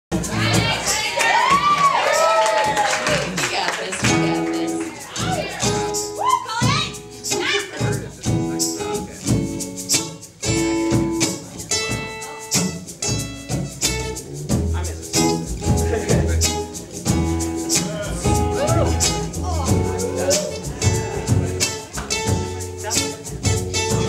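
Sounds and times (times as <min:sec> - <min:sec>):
acoustic guitar strumming: 0:00.1 - 0:24.0
hand percussion: 0:00.1 - 0:24.0
upright bass: 0:00.1 - 0:24.0.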